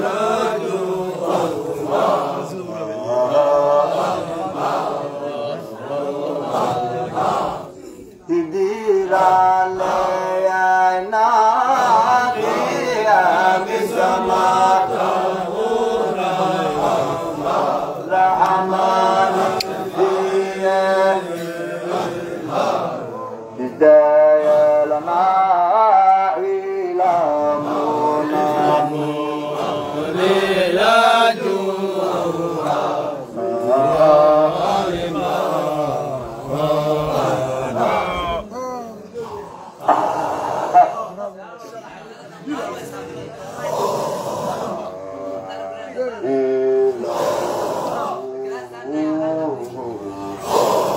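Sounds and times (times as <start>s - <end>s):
man leading chant on microphone: 0.0s - 41.4s, 42.6s - 50.9s
men chanting: 0.0s - 41.4s, 42.3s - 50.9s.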